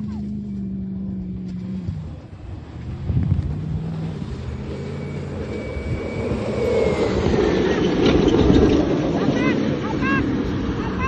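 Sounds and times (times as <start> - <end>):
car engine driving on sand: 0.0 - 11.0.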